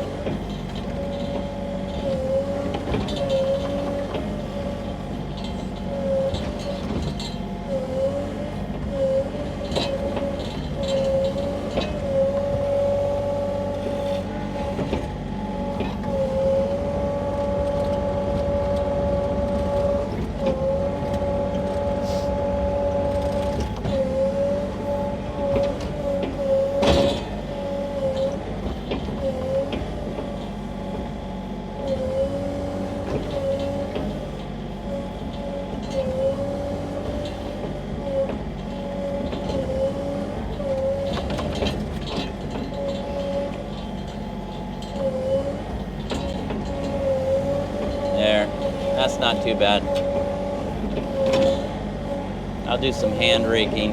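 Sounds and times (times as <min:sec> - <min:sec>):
excavator diesel engine humming: 0:00.0 - 0:53.9
hydraulic whine: 0:00.0 - 0:53.9.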